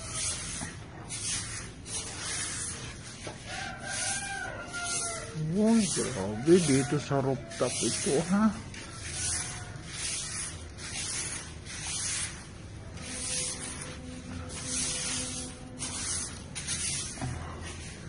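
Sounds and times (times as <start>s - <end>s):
broom sweeping gritty ash: 0.0s - 18.0s.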